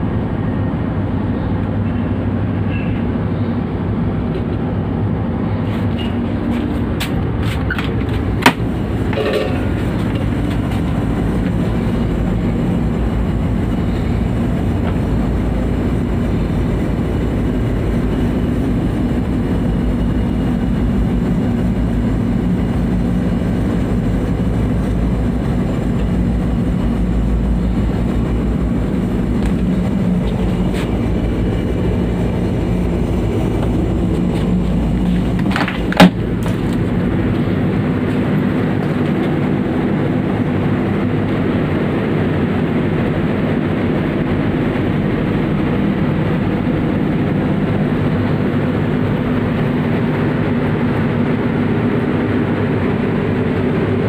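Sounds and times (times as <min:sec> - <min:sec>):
ship machinery drone: 0:00.0 - 0:54.0.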